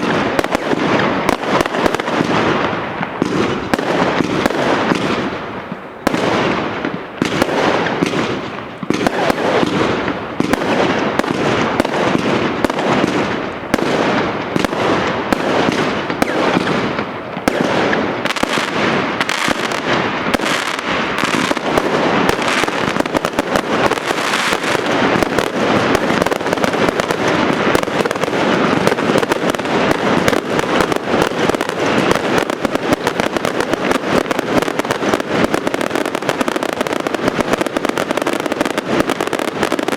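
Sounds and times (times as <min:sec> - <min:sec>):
firework bangs and crackling: 0:00.0 - 0:39.9.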